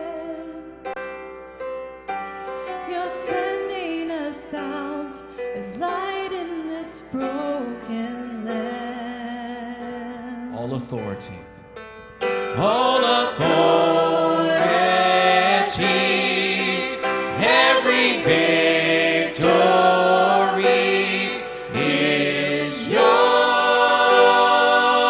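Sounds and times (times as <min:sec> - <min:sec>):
worship song with accompaniment: 0:00.0 - 0:25.0.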